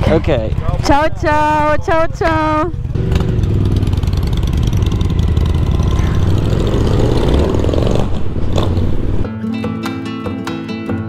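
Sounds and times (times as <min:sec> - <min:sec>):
motorcycle engine running: 0:00.0 - 0:09.3
town traffic: 0:00.0 - 0:09.4.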